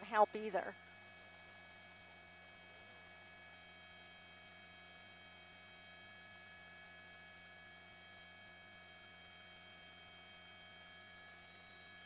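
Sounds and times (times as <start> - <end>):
faint steady tonal hum: 0.0 - 6.8, 7.8 - 12.0.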